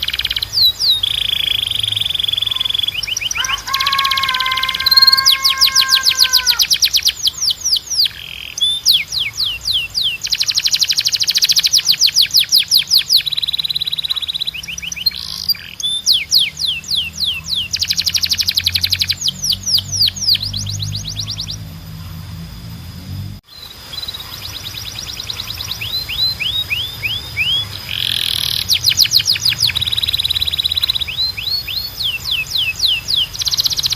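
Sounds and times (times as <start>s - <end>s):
canary singing trills: 0.0s - 22.8s, 23.5s - 33.9s.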